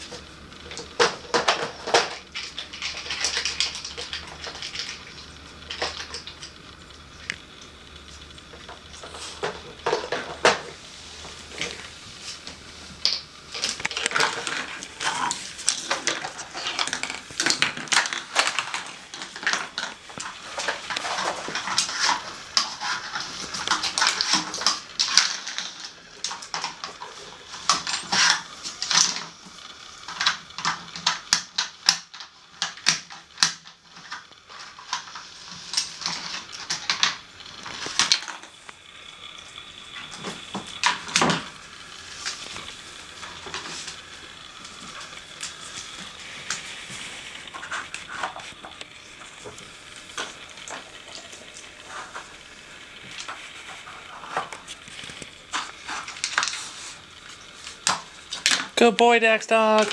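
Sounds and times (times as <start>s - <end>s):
plastic pieces clacking and rattling: 0.1s - 7.6s, 8.4s - 10.8s, 13.0s - 58.9s, 59.5s - 59.9s.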